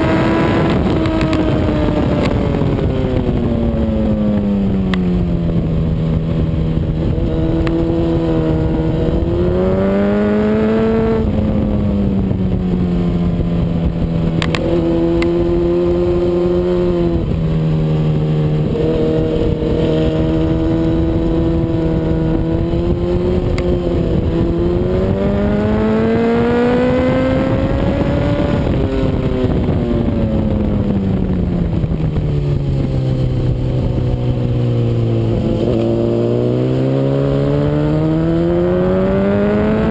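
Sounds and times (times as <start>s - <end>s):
sportbike engine at speed: 0.0s - 39.9s.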